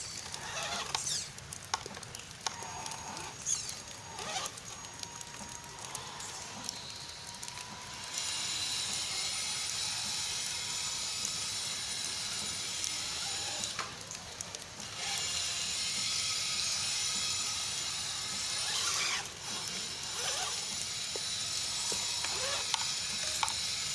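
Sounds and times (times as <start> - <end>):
rc car motor and spray hiss: 0.0 - 1.8, 2.4 - 23.9
motor whine: 0.0 - 13.9, 14.8 - 23.9.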